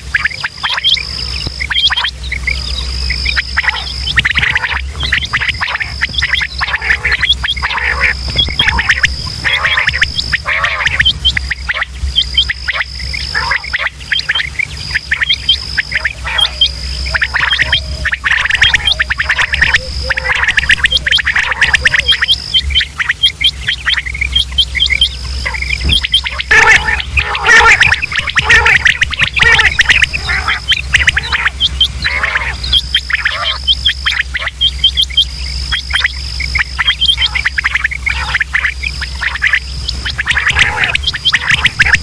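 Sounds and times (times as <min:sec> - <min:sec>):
low hum: 0:00.0 - 0:42.0
quail calling: 0:00.0 - 0:42.0
steady high whine: 0:00.0 - 0:42.0.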